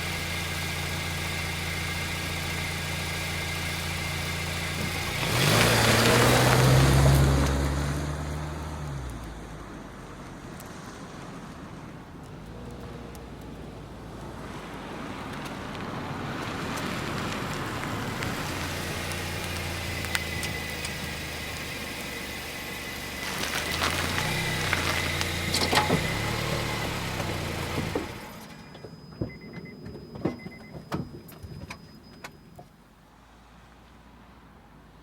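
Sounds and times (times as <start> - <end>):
car driving by: 0.0 - 29.8.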